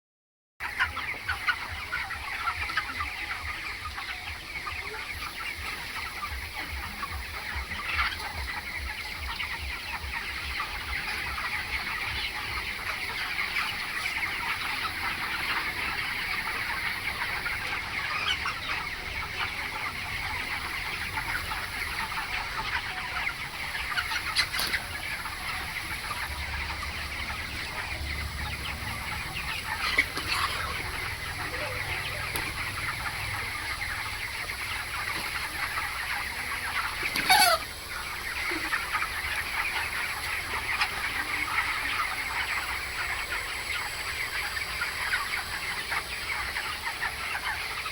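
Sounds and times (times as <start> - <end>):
chickens clucking: 0.6 - 47.9.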